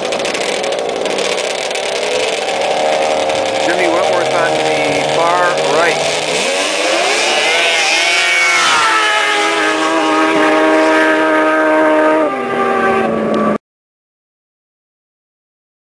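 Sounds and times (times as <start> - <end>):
snowmobile engines revving: 0.0 - 13.6.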